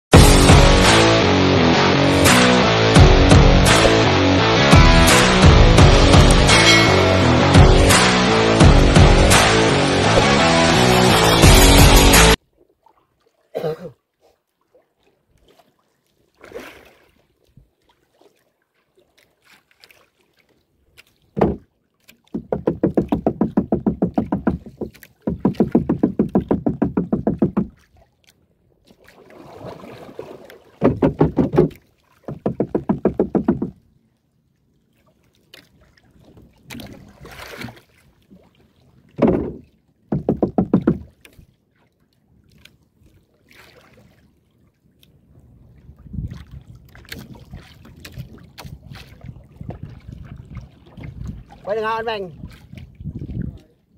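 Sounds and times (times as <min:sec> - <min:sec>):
paddle splashes and knocks: 0:07.6 - 0:34.1, 0:34.8 - 0:53.8.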